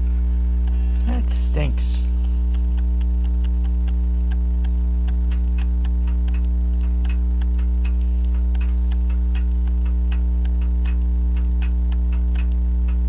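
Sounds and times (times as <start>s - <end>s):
clock ticking fast: 0.0s - 13.0s
mains hum: 0.0s - 13.0s.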